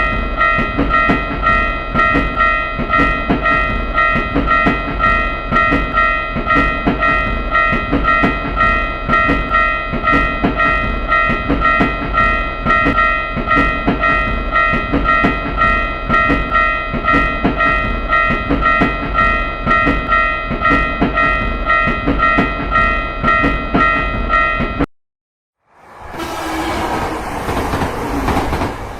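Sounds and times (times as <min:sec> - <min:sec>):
passing train rumble and wheel clatter: 0:00.0 - 0:24.8, 0:25.7 - 0:28.9
railroad crossing bell clanging: 0:00.0 - 0:24.8, 0:25.8 - 0:28.9.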